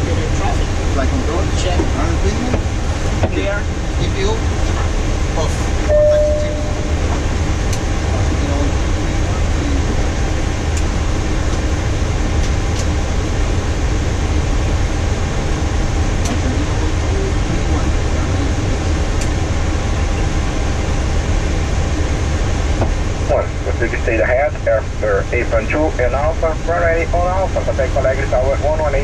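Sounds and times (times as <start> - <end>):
jet engines idling: 0.0 - 29.0.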